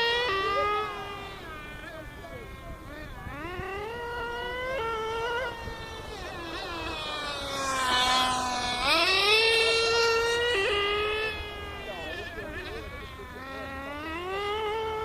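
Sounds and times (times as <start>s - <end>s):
small nitro engines revving: 0.0s - 15.0s.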